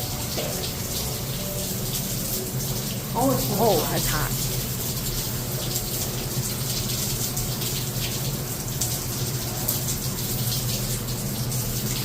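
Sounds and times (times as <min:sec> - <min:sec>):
shower water spraying on tiles: 0:00.0 - 0:12.0.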